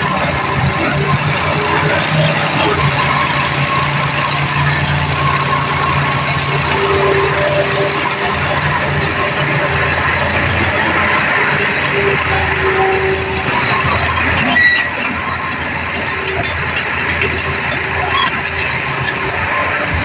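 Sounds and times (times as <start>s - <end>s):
excavator diesel engine running: 0.0s - 20.0s
low drone: 0.0s - 20.0s.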